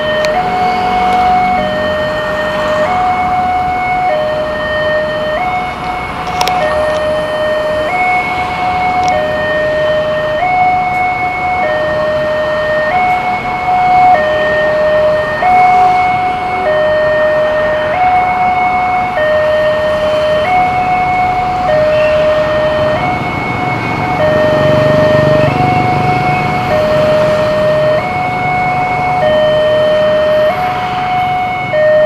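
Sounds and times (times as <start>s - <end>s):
level crossing two-tone siren: 0.0s - 32.0s
road traffic noise: 0.0s - 32.0s.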